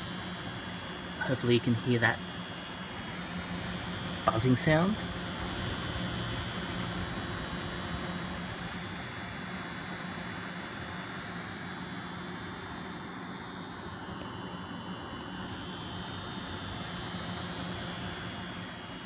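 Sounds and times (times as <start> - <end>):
computer fans rushing air: 0.0 - 19.0
fan buzz: 0.0 - 19.0.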